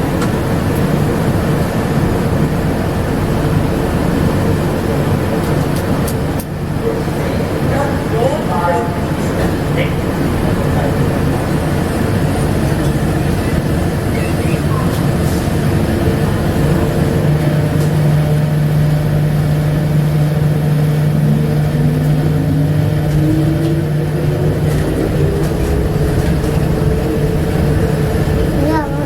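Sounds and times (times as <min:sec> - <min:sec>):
rising whine of train: 0:00.0 - 0:29.0
train rumble and hum: 0:00.0 - 0:29.0.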